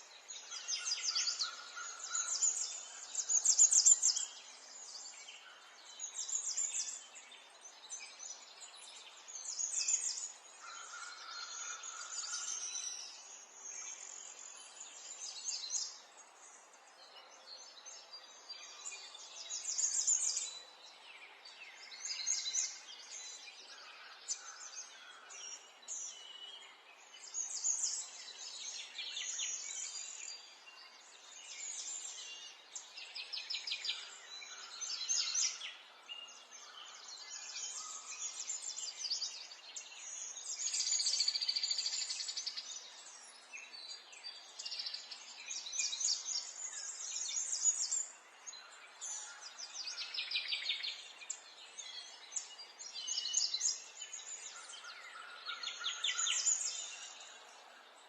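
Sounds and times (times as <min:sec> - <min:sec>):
faint outdoor background noise: 0:00.0 - 0:58.0
small birds chirping and trilling: 0:00.0 - 0:58.0.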